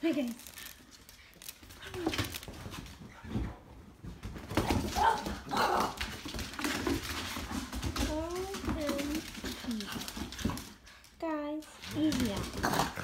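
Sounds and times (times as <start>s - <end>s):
dogs scuffling on hardwood floor: 0.0s - 13.0s.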